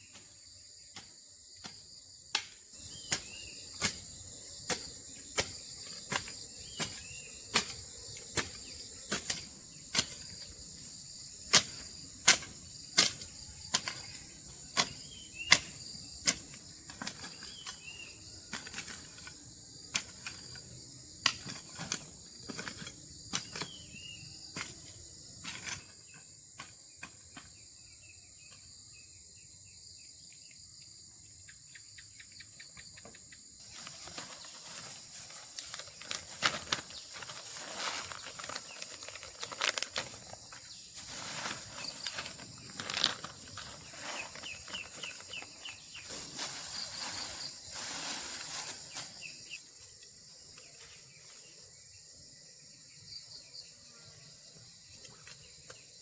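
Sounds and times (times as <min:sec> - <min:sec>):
crickets and insects droning: 0:00.0 - 0:56.0.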